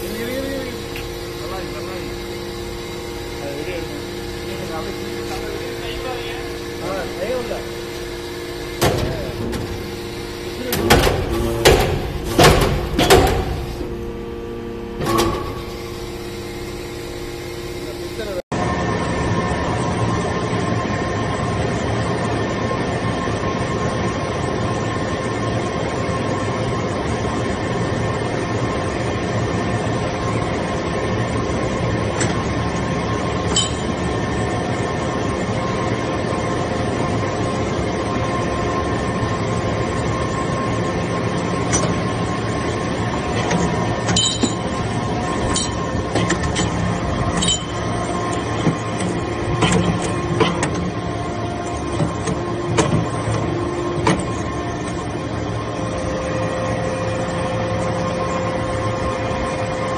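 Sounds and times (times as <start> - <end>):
machine pump motor hum: 0.0 - 59.9.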